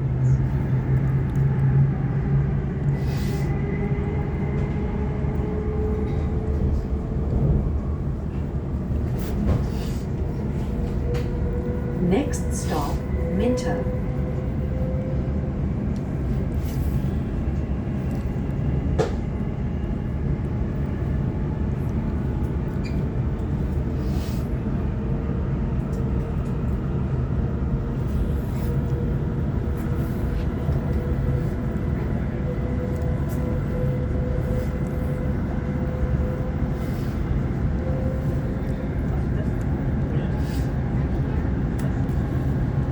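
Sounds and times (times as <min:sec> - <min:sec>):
constant hum: 0:00.0 - 0:42.9
train wheels rumbling on track: 0:00.0 - 0:42.9.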